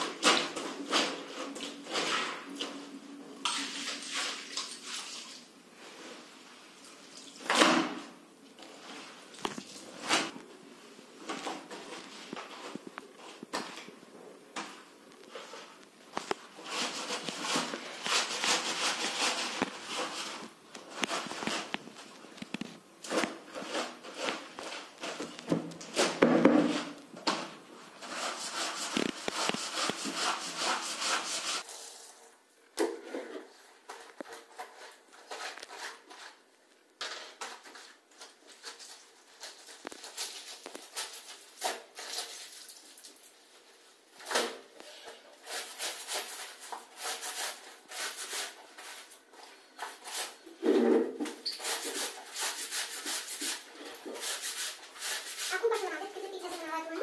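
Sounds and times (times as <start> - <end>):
clothes scrubbed on tiled floor: 0.0 - 10.4, 14.5 - 32.3, 37.1 - 57.0.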